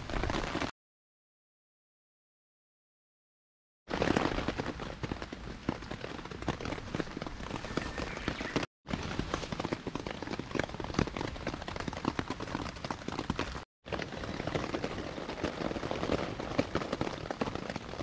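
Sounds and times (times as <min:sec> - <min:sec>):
rain pattering on a tarp: 0:00.0 - 0:00.7, 0:03.9 - 0:18.0.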